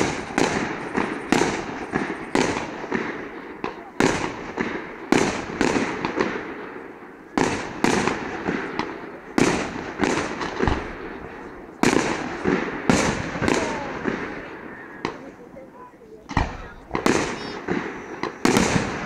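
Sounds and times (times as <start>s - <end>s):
firework bangs echoing: 0.0s - 19.0s.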